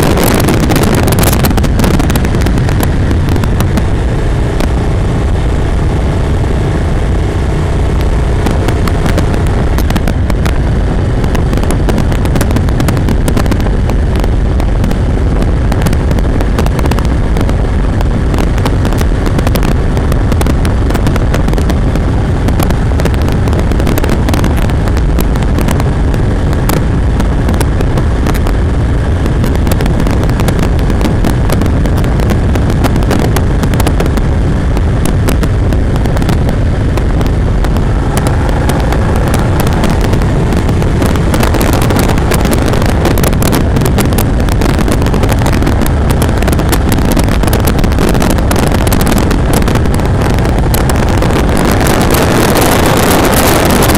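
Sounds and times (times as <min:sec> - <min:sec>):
motorcycle engine running: 0:00.0 - 0:53.9
wind buffeting crackle: 0:00.0 - 0:53.9
wind noise on microphone: 0:00.0 - 0:53.9.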